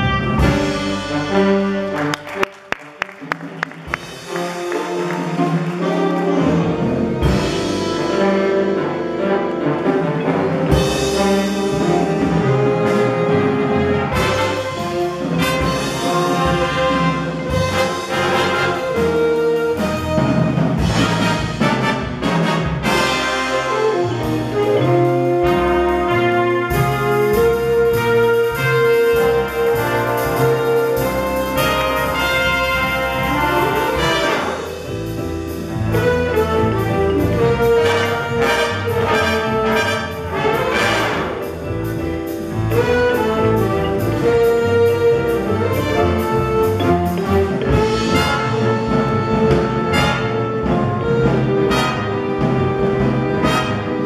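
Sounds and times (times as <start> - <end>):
jazz big band playing: 0.0 - 54.0.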